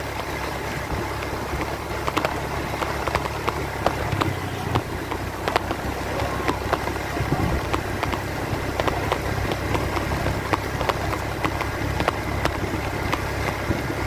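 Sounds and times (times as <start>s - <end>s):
clicks and rattles: 0.0s - 14.0s
vehicle engine humming: 0.0s - 14.0s.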